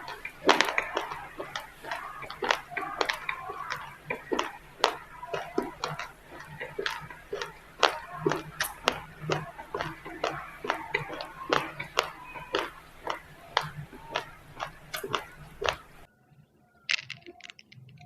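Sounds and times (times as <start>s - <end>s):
chewing crunchy rice grains: 0.0s - 16.1s.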